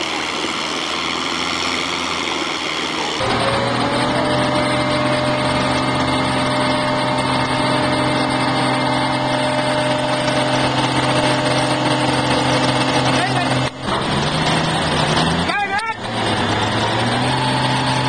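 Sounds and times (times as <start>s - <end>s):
crane engine running steadily: 0.0s - 18.0s.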